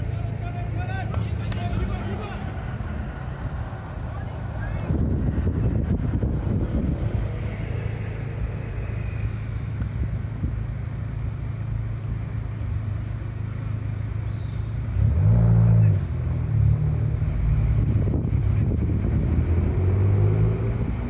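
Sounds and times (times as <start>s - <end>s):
vehicle engine passing: 0.0s - 11.8s, 14.9s - 21.0s
road traffic rumble: 0.0s - 21.0s.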